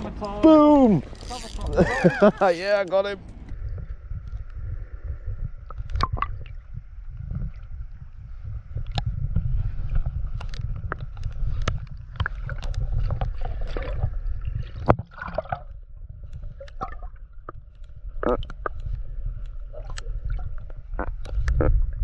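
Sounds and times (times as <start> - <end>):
steady low rumble: 0.0 - 22.0
sea water sloshing and gurgling: 3.2 - 22.0.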